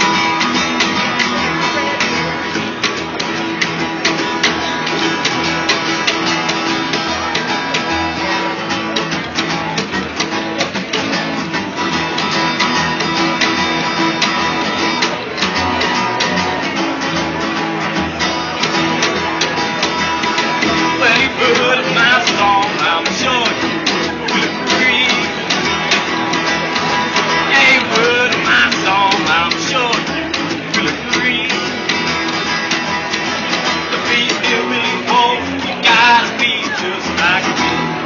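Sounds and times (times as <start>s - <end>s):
rockabilly band playing live: 0.0s - 38.0s.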